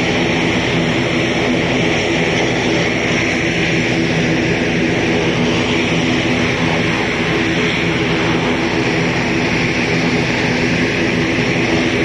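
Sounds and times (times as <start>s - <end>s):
distant jet engines whining: 0.0s - 12.0s.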